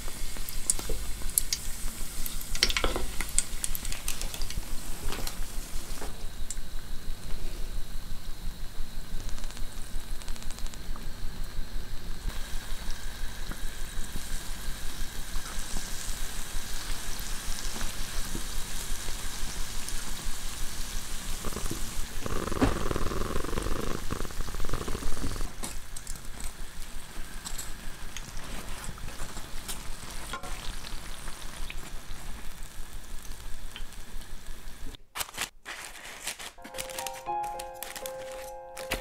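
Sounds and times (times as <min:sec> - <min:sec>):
oil sizzling and crackling: 0:00.0 - 0:06.9, 0:09.2 - 0:39.0.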